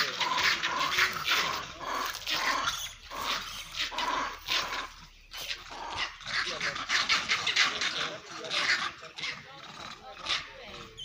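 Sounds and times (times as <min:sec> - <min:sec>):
monkeys fighting with harsh cries: 0:00.0 - 0:11.0.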